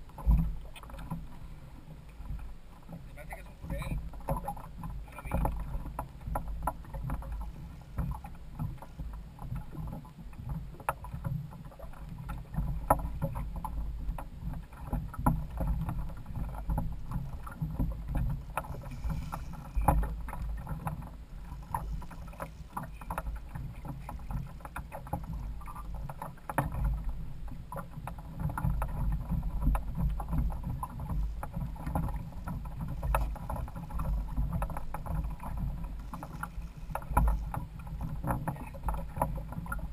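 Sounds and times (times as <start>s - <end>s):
water slapping against hull: 0.0s - 39.9s.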